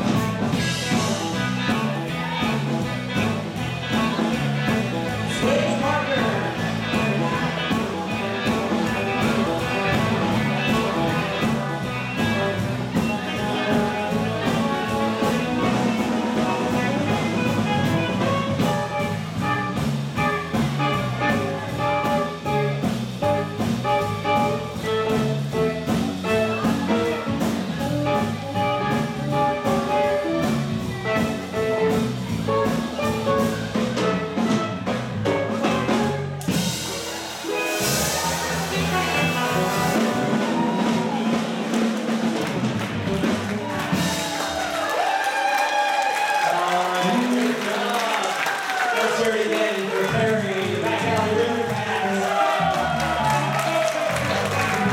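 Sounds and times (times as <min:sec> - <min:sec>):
swing band playing jazz: 0:00.0 - 0:54.9.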